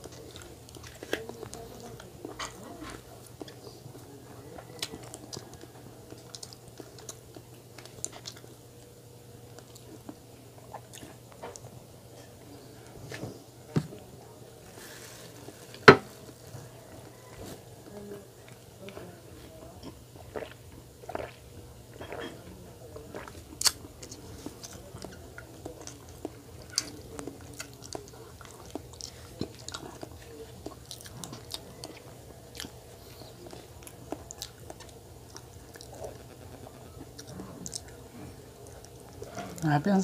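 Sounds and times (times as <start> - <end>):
chewing with wet smacks: 0.0 - 8.7, 9.4 - 11.7, 16.4 - 39.8.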